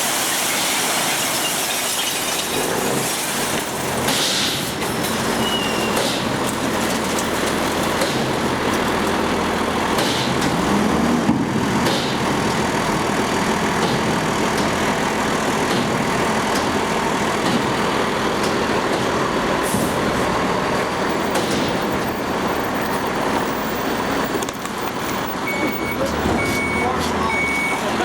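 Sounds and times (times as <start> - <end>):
truck engine running: 0.1 - 28.0.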